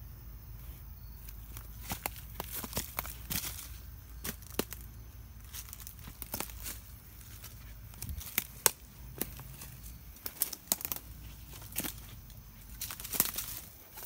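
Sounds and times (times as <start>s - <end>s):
footsteps crunching dry leaves: 0.6s - 14.0s.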